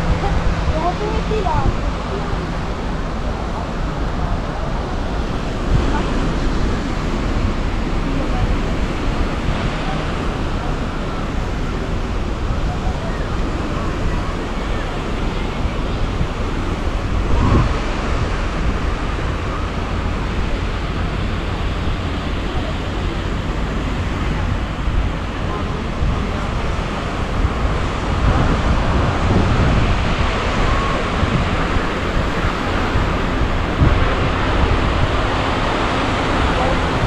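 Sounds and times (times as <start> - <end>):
small waves washing ashore: 0.0 - 37.0
wind buffeting microphone: 0.0 - 37.0.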